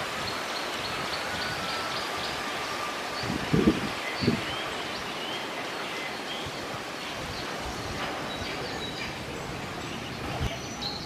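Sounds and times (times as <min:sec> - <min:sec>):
steady rustling hiss: 0:00.0 - 0:11.0
faint bird chirps: 0:00.2 - 0:11.0.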